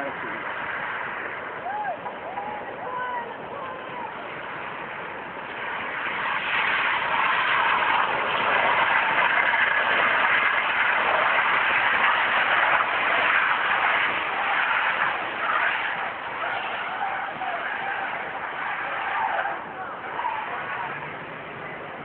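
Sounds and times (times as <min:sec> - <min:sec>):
rain hissing: 0:00.0 - 0:02.4, 0:03.3 - 0:22.0
car driving on wet road: 0:00.0 - 0:22.0.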